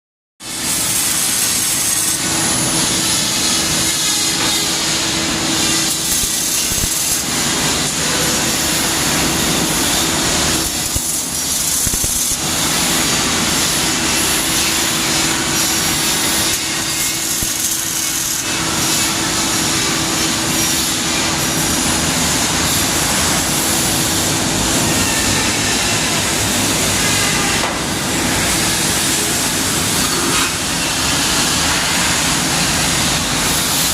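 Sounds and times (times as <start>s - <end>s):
welding arc crackling: 0.4s - 33.9s.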